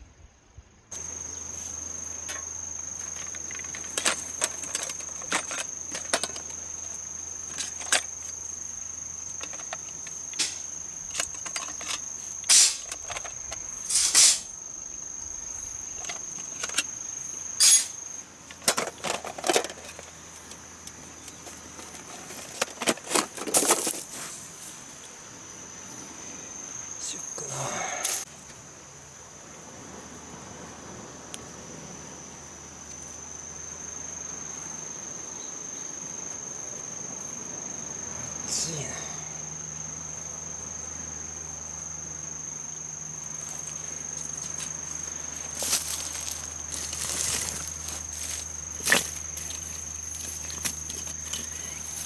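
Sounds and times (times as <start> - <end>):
high-pitched insect trill: 0.0 - 52.0.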